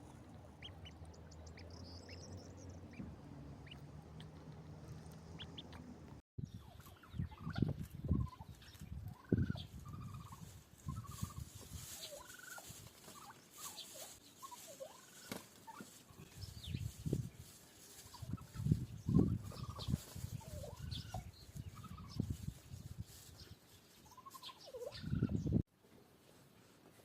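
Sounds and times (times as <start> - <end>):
poultry chirping calls: 0.0 - 25.6.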